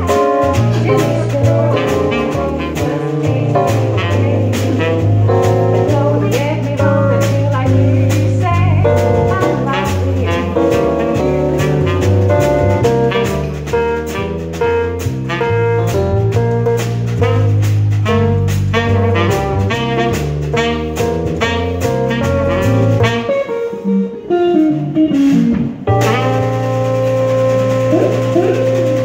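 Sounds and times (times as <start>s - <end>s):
tenor saxophone: 0.0s - 7.6s, 8.5s - 16.2s, 17.2s - 29.0s
jazz combo playing live: 0.0s - 29.0s.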